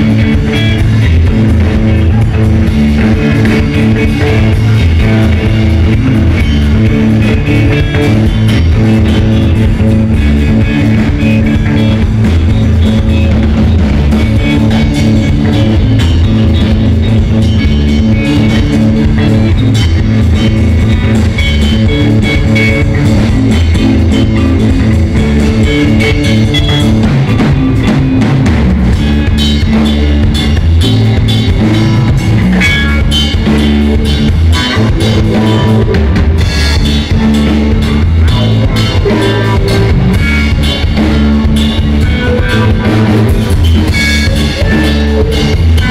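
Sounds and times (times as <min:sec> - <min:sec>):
drum kit: 0:00.0 - 0:45.9
electric guitars: 0:00.0 - 0:45.9.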